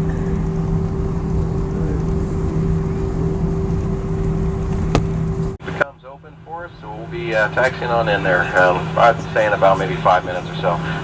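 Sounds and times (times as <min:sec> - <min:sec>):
low two-tone hum: 0:00.0 - 0:11.0.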